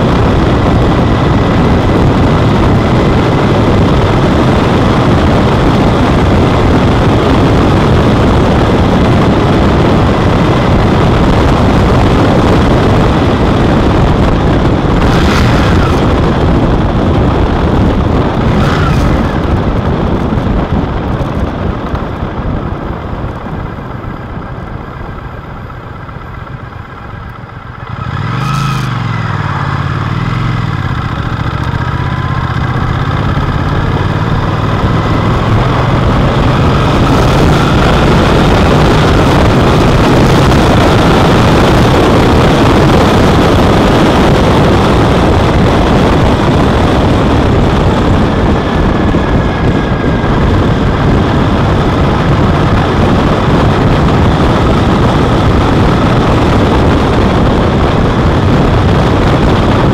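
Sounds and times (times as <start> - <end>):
motorcycle engine accelerating: 0.0 - 59.9
wind and road noise: 0.0 - 59.9.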